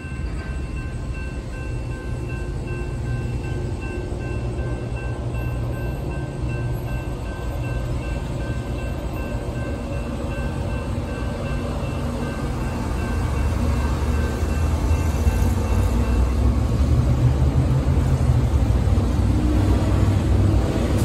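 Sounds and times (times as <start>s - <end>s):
crossing warning bell ringing: 0.0s - 21.0s
freight train rumbling: 0.0s - 21.0s.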